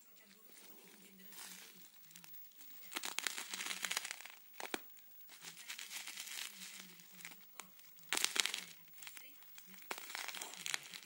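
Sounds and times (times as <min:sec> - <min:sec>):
bubble wrap crackling: 0:00.2 - 0:11.0.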